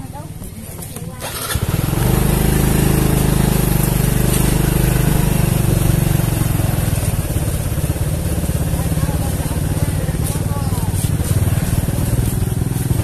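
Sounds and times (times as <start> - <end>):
motorcycle engine puttering: 0.0 - 13.0.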